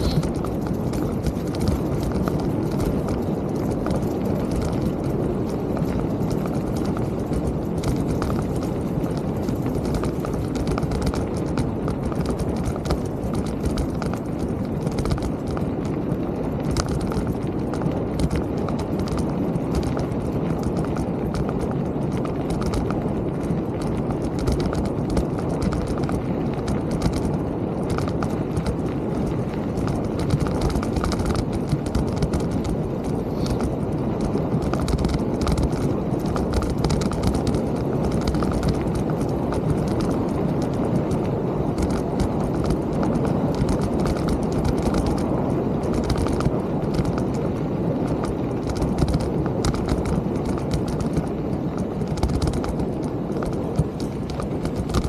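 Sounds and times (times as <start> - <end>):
bike rattling and knocking: 0.0 - 55.0
mountain bike rumbling on trail: 0.0 - 55.0.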